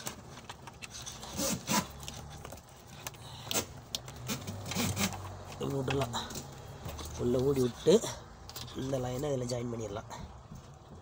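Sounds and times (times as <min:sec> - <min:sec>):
wire rubbing and scraping: 0:00.0 - 0:09.5.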